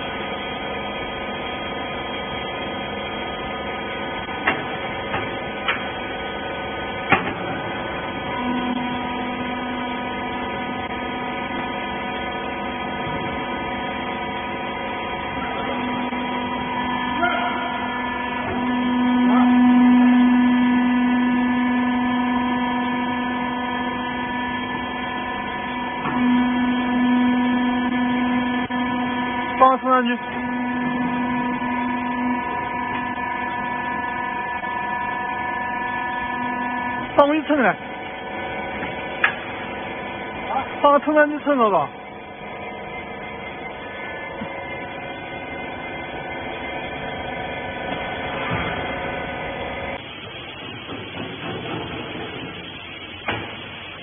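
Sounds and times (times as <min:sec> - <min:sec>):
hydraulic power unit humming: 0:00.0 - 0:54.0.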